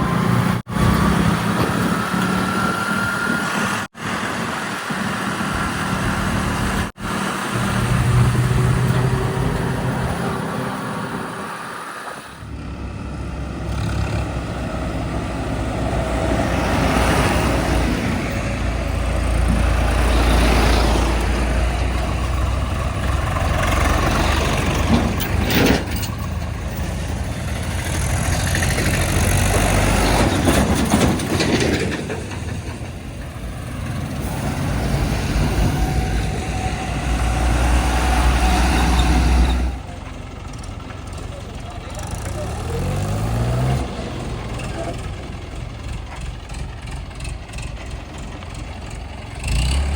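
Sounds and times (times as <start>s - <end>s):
heavy diesel engines revving: 0.0s - 49.9s.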